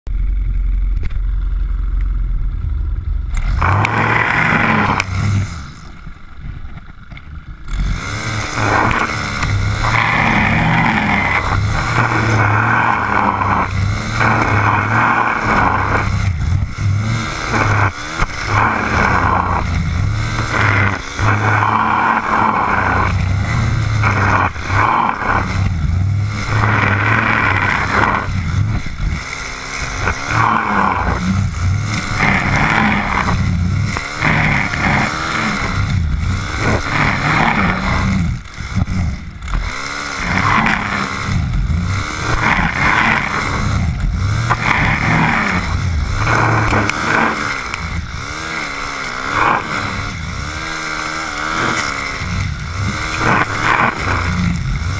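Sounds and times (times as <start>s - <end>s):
brush cutter engine revving: 3.3s - 54.9s.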